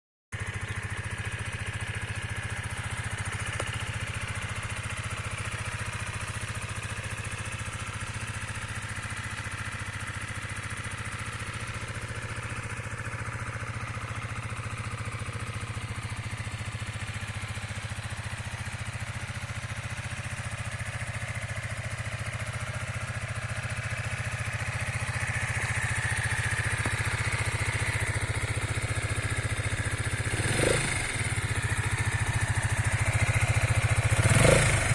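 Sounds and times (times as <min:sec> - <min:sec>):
motorcycle engine idling: 0:00.4 - 0:34.9.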